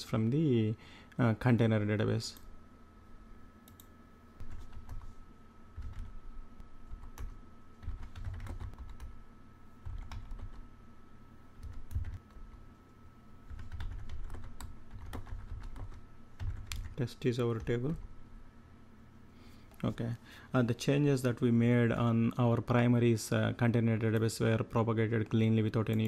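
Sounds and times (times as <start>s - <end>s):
faint steady whine: 0.0s - 26.0s.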